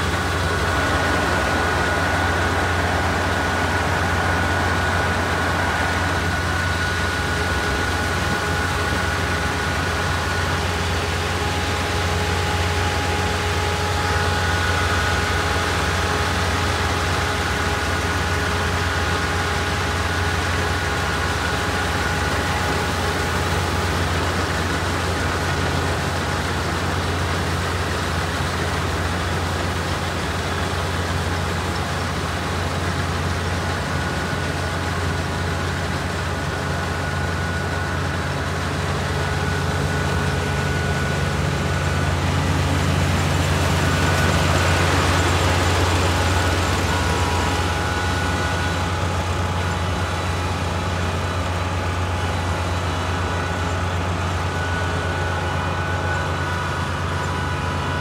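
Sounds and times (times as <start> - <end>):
combine harvester diesel drone: 0.0 - 58.0
machinery hum: 0.0 - 58.0.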